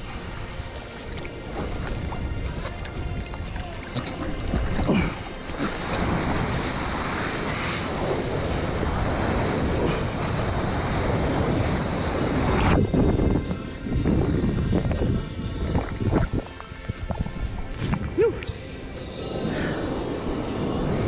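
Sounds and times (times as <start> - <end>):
surf water rushing and splashing: 0.0 - 21.0
wind buffeting microphone: 1.5 - 21.0.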